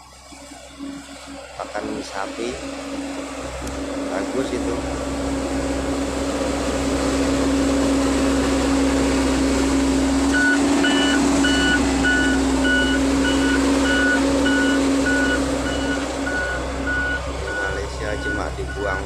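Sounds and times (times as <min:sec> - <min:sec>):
diesel engine running under load: 0:00.0 - 0:19.0
reversing alarm beeping: 0:00.0 - 0:19.0.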